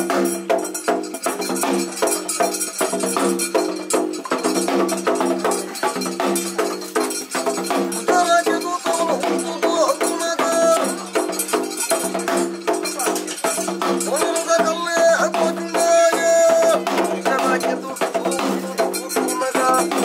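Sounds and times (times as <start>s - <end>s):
fast drum strokes: 0.0s - 20.0s
rattling percussion: 0.0s - 20.0s.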